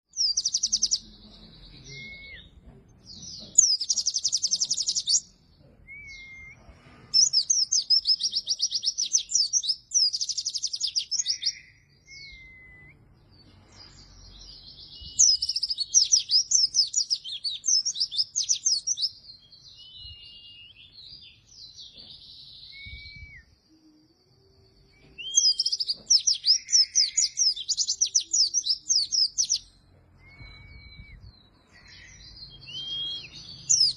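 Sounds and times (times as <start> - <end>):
bird trilling song: 0.1 - 33.9
thin whistled bird notes: 5.8 - 33.9.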